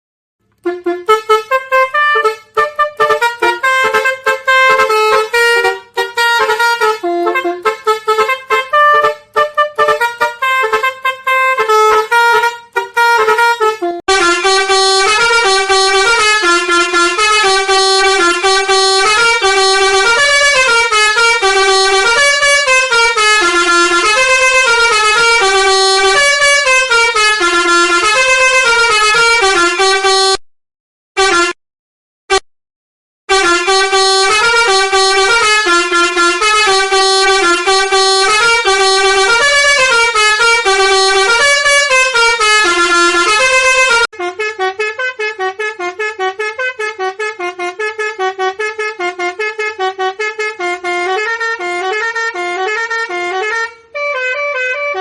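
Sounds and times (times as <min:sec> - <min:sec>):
multi-tone bus horn melody: 0:00.4 - 0:30.4, 0:31.2 - 0:31.6, 0:33.3 - 0:55.0.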